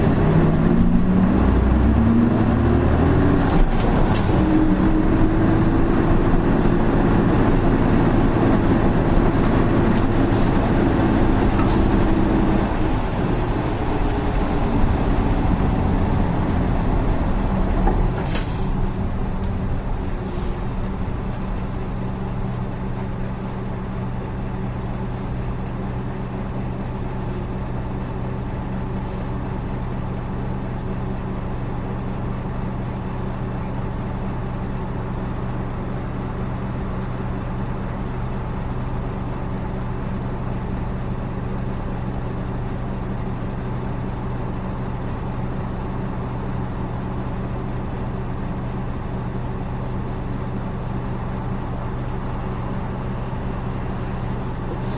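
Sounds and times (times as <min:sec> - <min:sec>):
diesel bus engine idling: 0:00.0 - 0:54.9.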